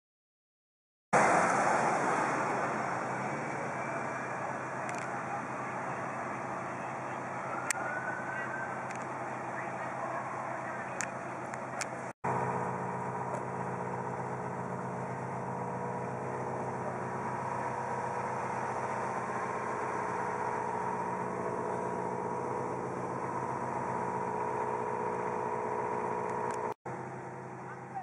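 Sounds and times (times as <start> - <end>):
vehicle engine idling: 1.2 - 28.0.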